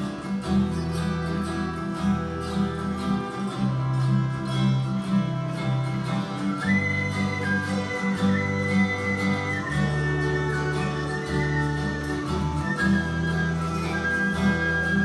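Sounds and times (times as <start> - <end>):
acoustic guitars strummed: 0.0 - 15.0
fiddle: 0.0 - 15.0.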